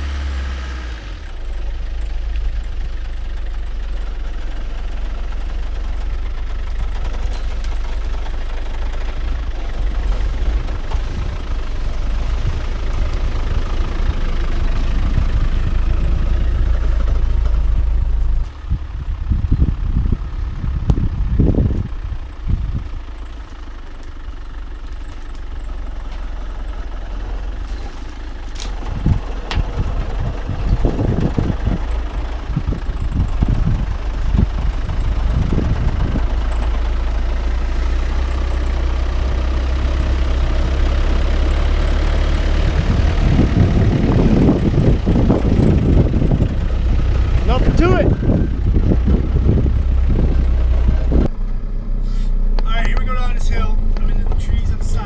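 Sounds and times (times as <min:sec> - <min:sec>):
car engine running at low revs: 0:00.0 - 0:55.0.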